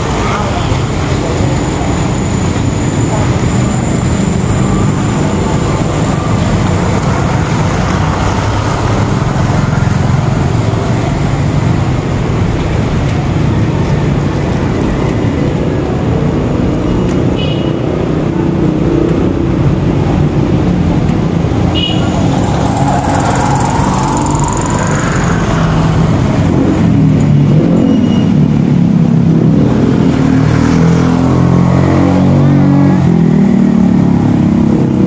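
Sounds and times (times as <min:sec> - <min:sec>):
motorcycles going by: 0:00.0 - 0:35.0
street traffic: 0:00.0 - 0:35.0.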